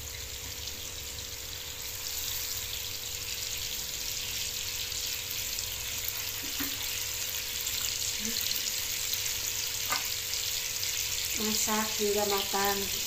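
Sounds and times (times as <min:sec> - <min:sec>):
bananas sizzling in a pan: 0:00.0 - 0:13.0.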